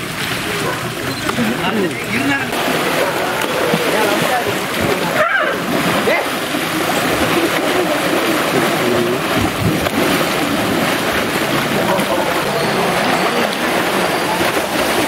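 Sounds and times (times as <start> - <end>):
water churning and splashing: 0.0 - 15.0.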